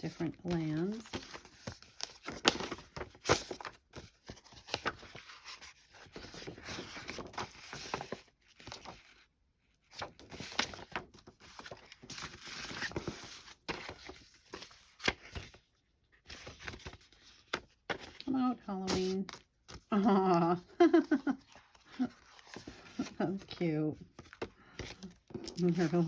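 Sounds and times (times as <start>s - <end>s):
paper rustling and crinkling: 0.0s - 9.2s, 9.8s - 26.0s.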